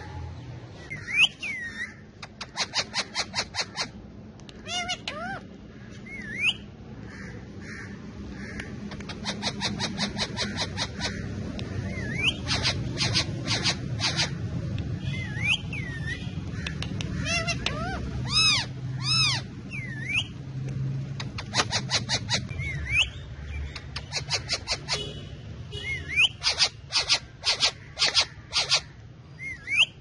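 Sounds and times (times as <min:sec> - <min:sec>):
parakeets screeching: 0:00.0 - 0:30.0.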